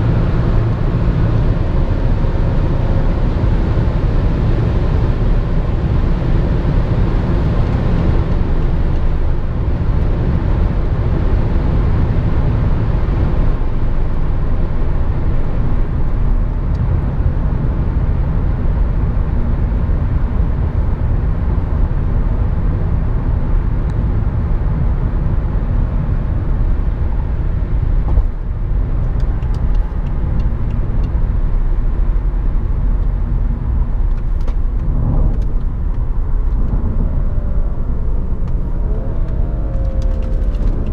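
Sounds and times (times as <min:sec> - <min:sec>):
car engine running: 0:00.0 - 0:40.9
tyre and wind noise in car: 0:00.0 - 0:40.9.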